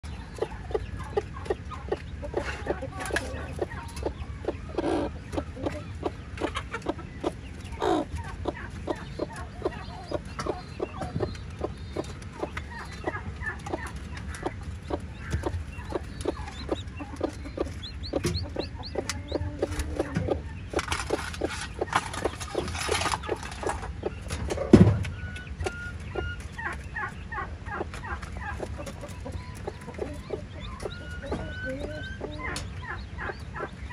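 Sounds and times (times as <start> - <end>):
chicks peeping: 0.0 - 33.9
hen clucking: 0.0 - 33.9.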